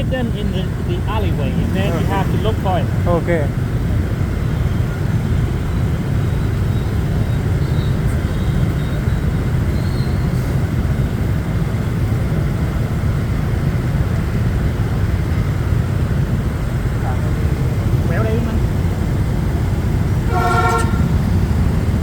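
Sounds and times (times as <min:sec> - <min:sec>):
city traffic noise: 0:00.0 - 0:22.0.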